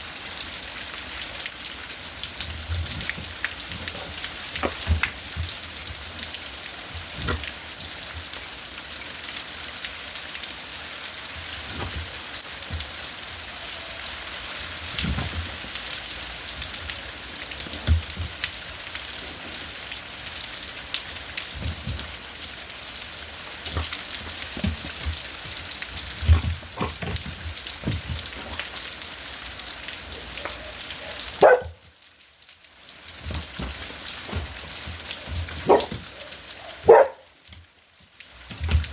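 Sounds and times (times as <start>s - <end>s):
rain and hail hissing: 0.0s - 38.9s
hail knocks: 1.6s - 8.7s, 11.2s - 30.6s, 33.0s - 38.9s.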